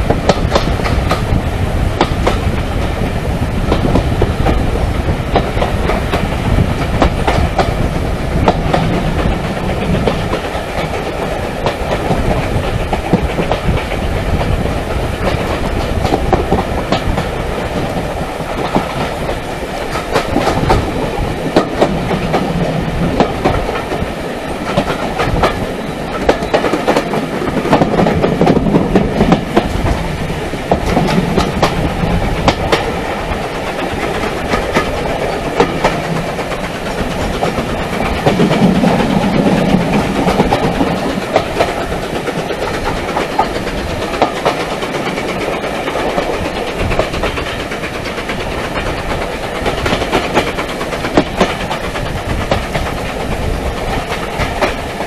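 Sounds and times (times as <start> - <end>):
wheels clicking over rails: 0.0 - 1.4, 2.0 - 55.0
train wheels rumbling: 0.0 - 55.0.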